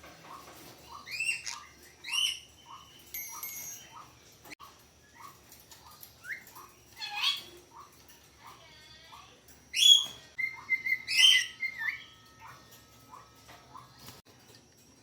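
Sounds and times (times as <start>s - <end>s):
parrot chirping and squawking: 0.2s - 4.2s, 5.0s - 14.0s.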